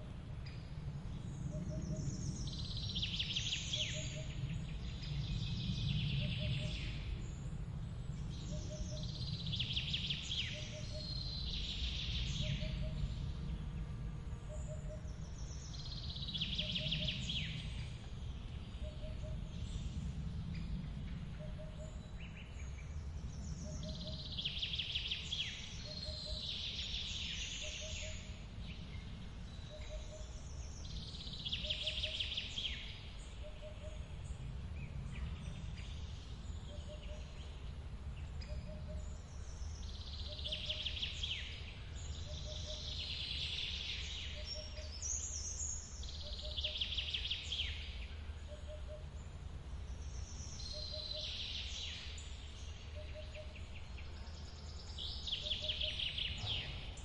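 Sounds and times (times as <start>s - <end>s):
birds singing: 0.0s - 57.0s.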